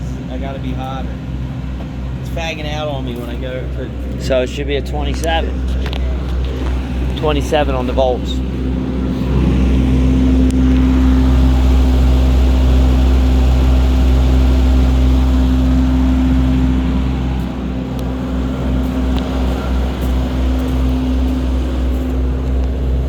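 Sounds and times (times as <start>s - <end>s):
welding machine hum: 4.0s - 23.0s.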